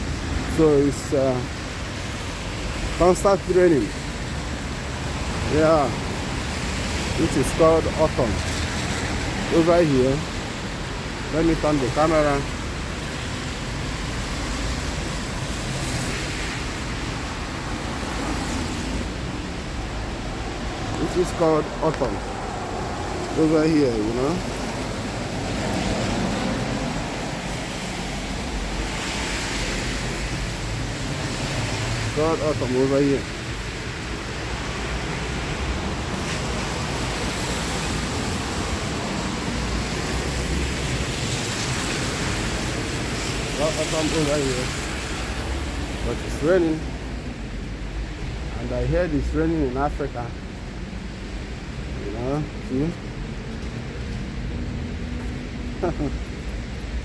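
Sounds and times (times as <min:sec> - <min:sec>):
road traffic on wet streets: 0:00.0 - 0:57.0.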